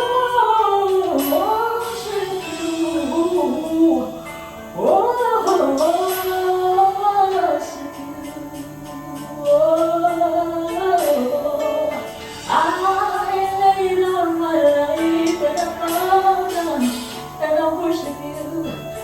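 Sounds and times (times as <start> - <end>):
steady musical accompaniment: 0.0 - 19.0.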